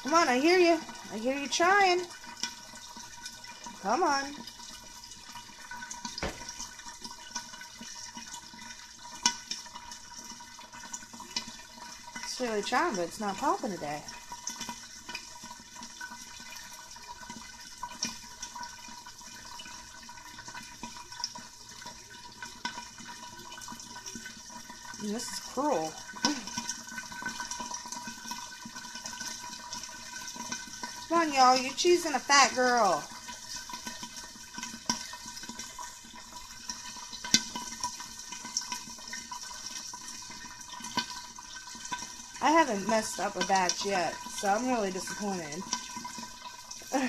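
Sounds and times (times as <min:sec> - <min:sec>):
hot oil sizzling and spitting: 0:00.0 - 0:47.0.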